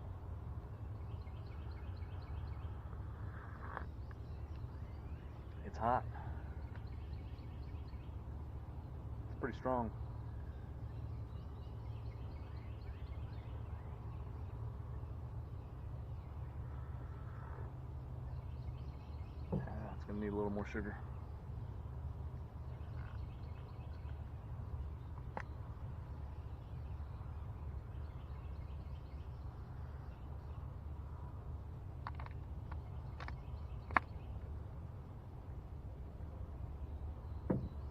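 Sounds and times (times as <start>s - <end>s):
faint birds chirping: 0.0s - 37.9s
low outdoor background noise: 0.0s - 37.9s.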